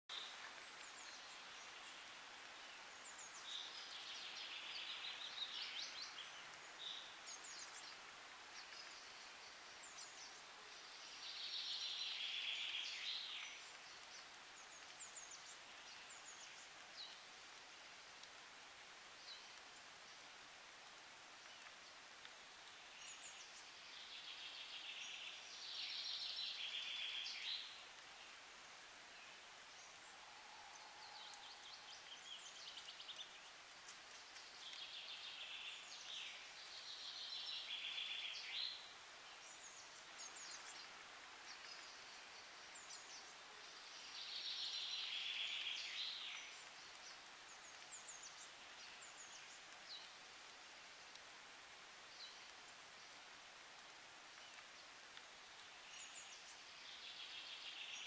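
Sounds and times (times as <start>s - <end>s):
songbird singing: 0.1s - 58.0s
steady outdoor hiss: 0.1s - 58.0s.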